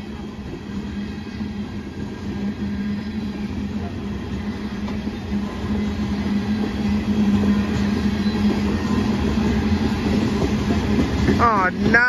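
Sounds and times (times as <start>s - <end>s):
clickety-clack of train wheels: 0.0s - 12.0s
freight train rumbling past: 0.0s - 12.0s.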